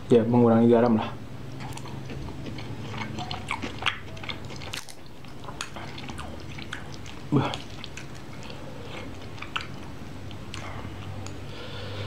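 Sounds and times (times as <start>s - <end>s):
person chewing with wet mouth sounds: 1.5s - 12.0s
mouth clicks and smacks: 1.6s - 11.4s.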